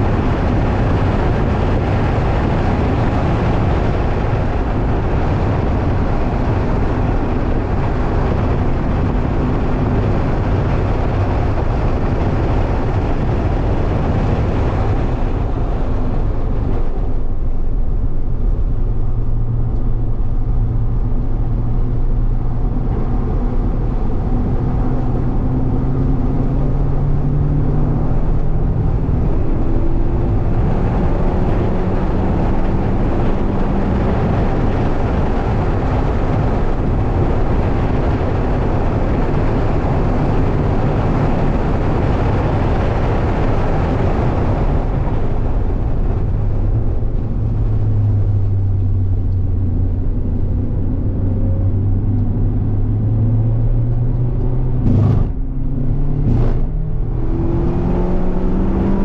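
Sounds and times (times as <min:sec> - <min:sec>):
car engine accelerating: 0:00.0 - 0:59.0
wind and tyre noise: 0:00.0 - 0:59.0.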